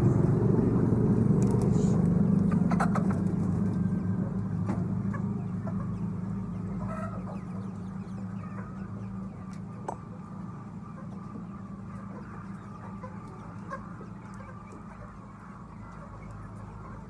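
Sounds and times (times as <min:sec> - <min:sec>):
chickens clucking: 0:00.0 - 0:17.0
low engine hum: 0:00.0 - 0:17.0.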